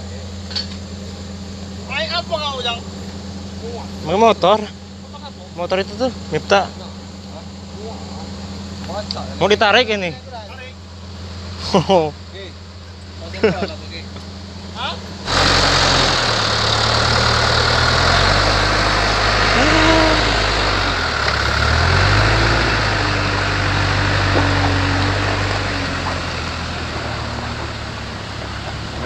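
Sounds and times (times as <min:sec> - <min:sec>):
bulldozer diesel engine: 0:00.0 - 0:29.0.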